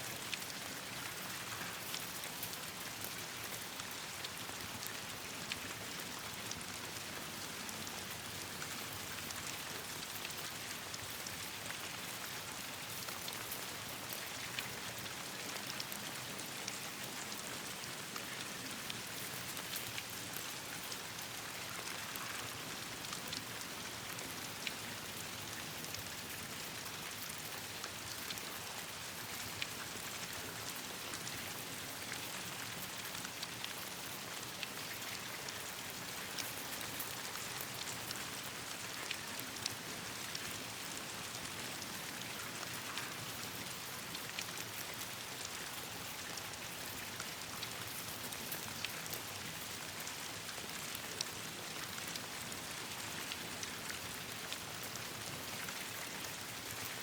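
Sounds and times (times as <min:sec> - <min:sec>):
rain falling on leaves: 0:00.0 - 0:57.0
sharp ticks of raindrops: 0:00.0 - 0:57.0.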